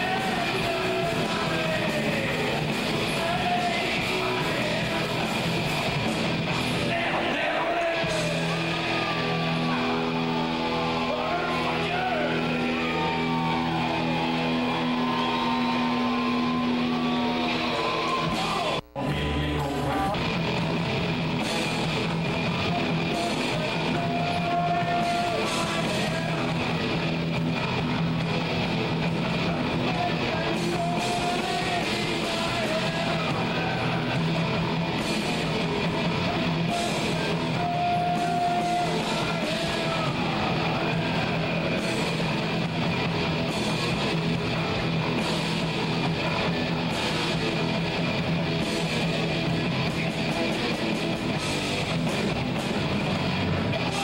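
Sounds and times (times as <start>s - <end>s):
lead guitar long notes: 0.0s - 54.0s
live rock band playing: 0.0s - 54.0s.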